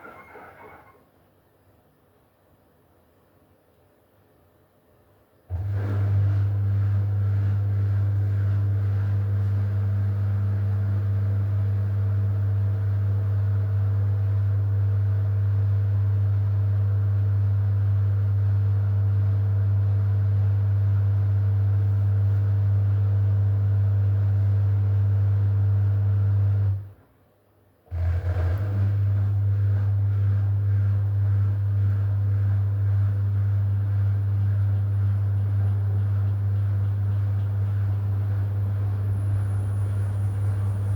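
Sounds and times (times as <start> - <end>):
washing machine humming: 0.0 - 1.0, 5.5 - 26.8, 27.9 - 40.9.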